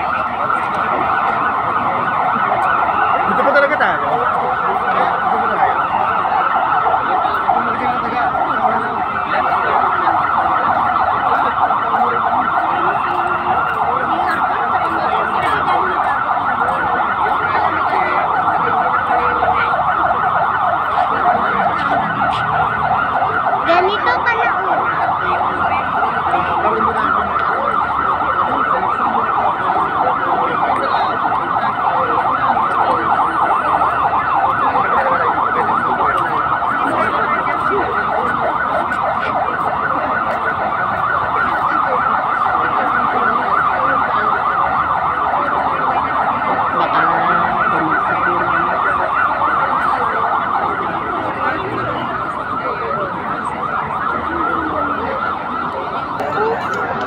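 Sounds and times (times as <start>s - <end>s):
electronic siren warbling: 0.0s - 57.0s.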